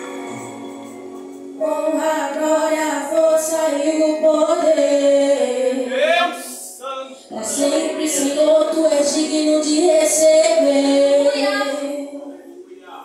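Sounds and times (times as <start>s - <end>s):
group singing worship song: 0.0s - 12.7s.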